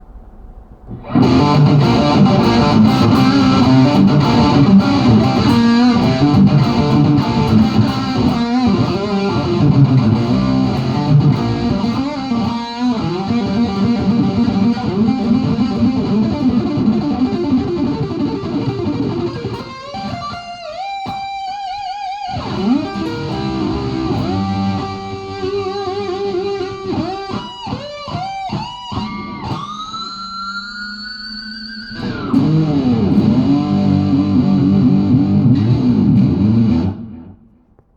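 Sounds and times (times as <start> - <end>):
electric guitar playing: 0.0 - 37.8.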